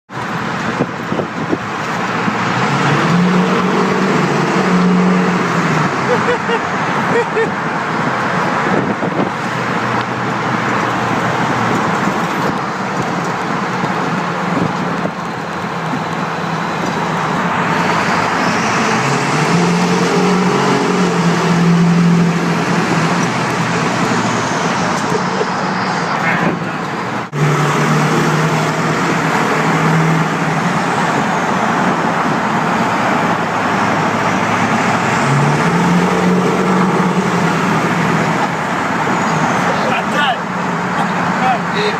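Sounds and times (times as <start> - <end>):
diesel truck engine in tunnel: 0.1 - 41.9.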